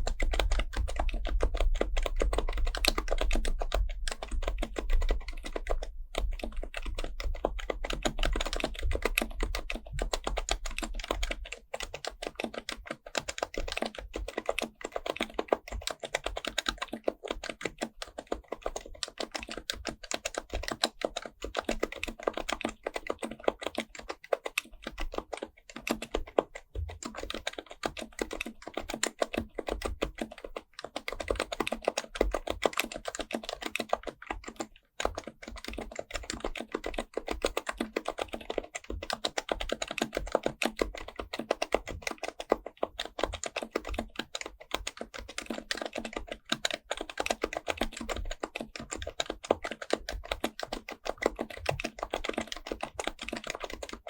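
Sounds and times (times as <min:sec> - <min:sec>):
fast typing on keyboard: 0:00.0 - 0:54.0.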